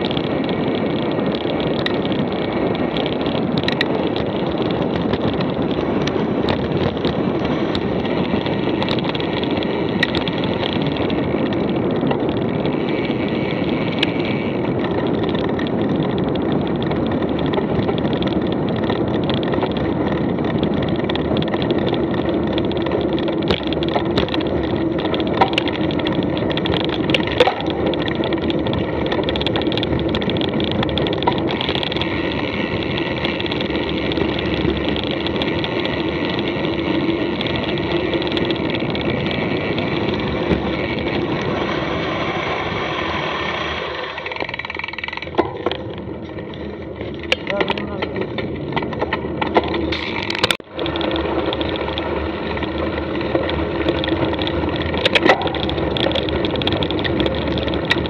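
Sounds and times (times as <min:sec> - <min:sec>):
bike clicks and rattles: 0:00.0 - 0:58.0
bike tyres rolling on trail: 0:00.0 - 0:58.0.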